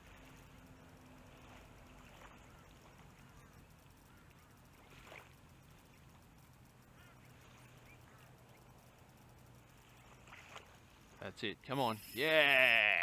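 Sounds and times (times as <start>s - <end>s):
faint chirp-like calls: 0.0s - 13.0s.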